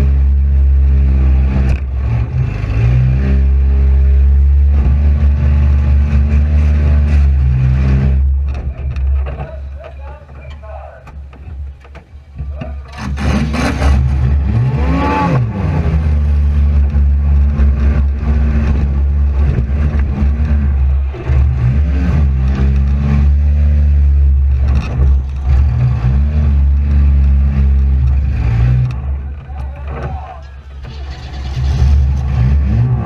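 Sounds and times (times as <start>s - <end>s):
car engine revving hard: 0.0s - 8.3s, 12.9s - 29.1s, 30.8s - 33.0s.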